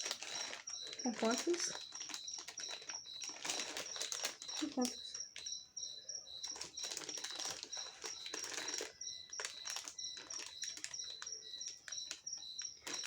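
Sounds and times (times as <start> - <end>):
plastic packaging crinkling: 0.0 - 5.6, 6.3 - 13.0.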